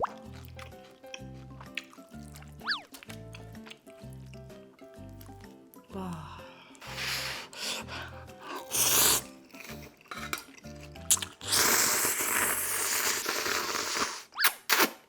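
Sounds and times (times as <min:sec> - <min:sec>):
light background music: 0:00.0 - 0:12.8
close eating sounds: 0:00.0 - 0:15.0.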